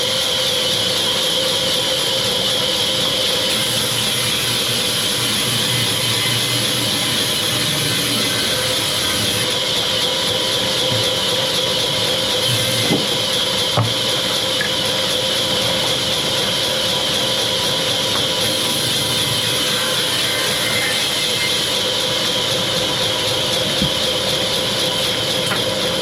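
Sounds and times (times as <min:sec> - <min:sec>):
sawmill machinery hiss and whine: 0:00.0 - 0:26.0.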